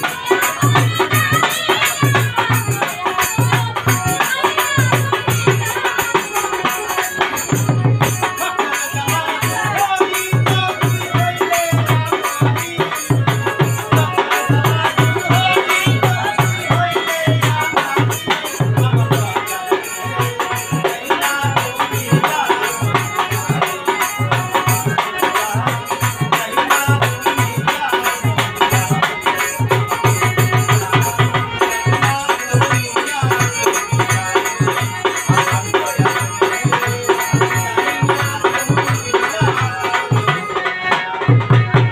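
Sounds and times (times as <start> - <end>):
hand drum beat: 0.0 - 41.9
harmonium: 0.0 - 41.9
man singing: 0.0 - 41.9.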